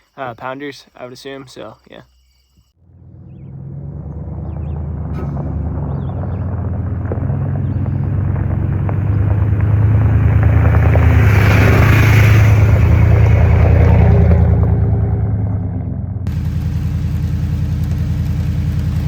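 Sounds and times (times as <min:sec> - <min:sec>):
road and wind noise: 0:02.8 - 0:19.0
vehicle engine running: 0:02.8 - 0:19.0.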